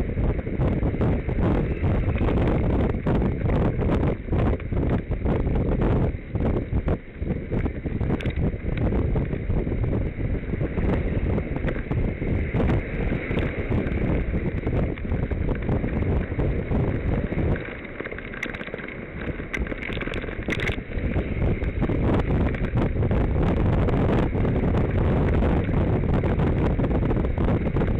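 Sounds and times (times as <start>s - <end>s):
wind buffeting microphone: 0.0s - 27.9s
bicycle clicks and rattles: 0.1s - 27.9s.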